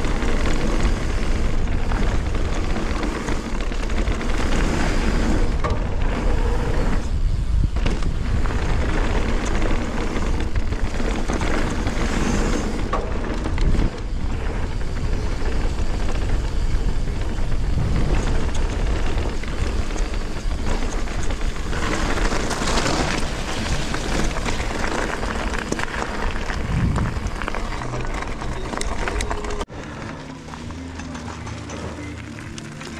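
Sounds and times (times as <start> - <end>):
wind noise on microphone: 0.0 - 29.6
bike tyres rolling on dirt: 0.0 - 32.9.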